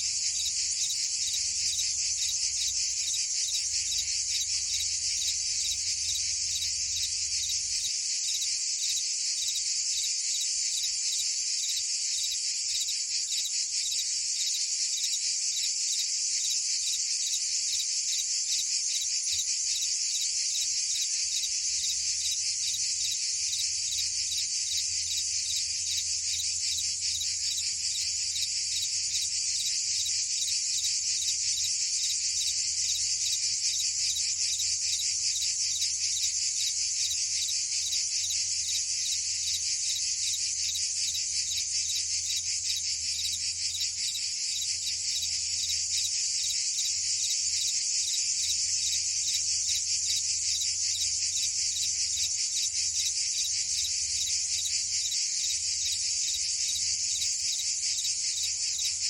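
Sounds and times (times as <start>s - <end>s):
cicadas and crickets buzzing: 0.0s - 59.0s.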